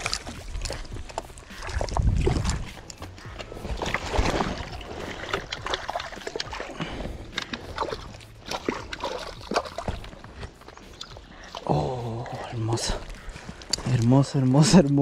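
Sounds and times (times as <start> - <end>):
water splashing in stream: 0.0 - 15.0.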